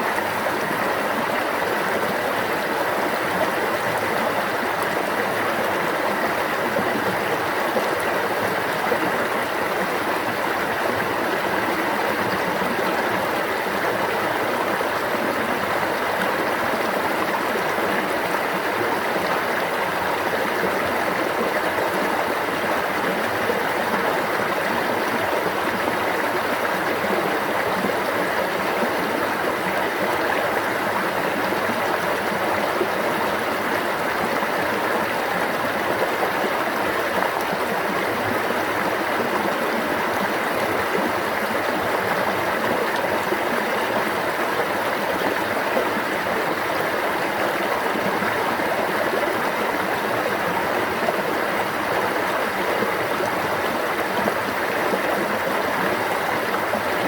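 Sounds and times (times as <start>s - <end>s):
stream flowing and babbling: 0.0s - 57.0s.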